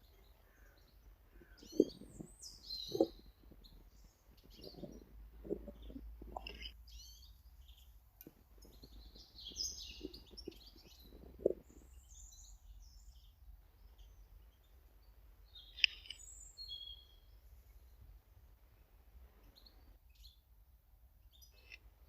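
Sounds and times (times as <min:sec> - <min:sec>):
small birds chirping: 0:00.0 - 0:18.0, 0:18.7 - 0:20.5, 0:21.2 - 0:22.0.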